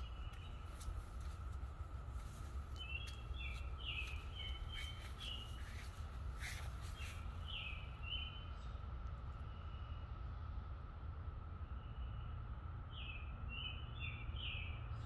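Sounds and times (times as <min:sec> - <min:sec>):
distant cicada chorus drone: 0:00.0 - 0:14.8.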